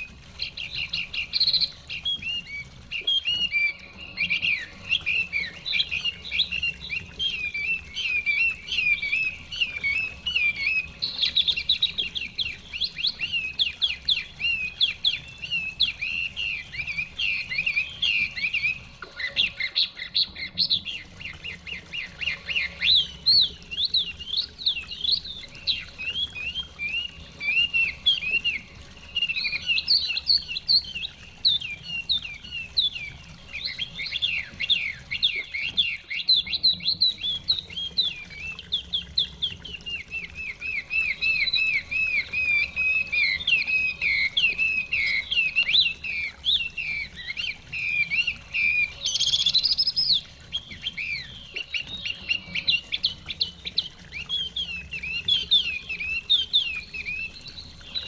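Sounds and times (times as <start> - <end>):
bird singing whistled trills: 0.0 - 58.0.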